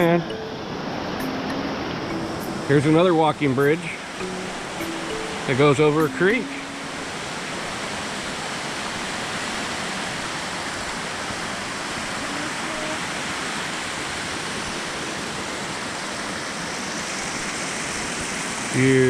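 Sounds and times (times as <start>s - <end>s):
creek water rushing: 0.0s - 18.7s.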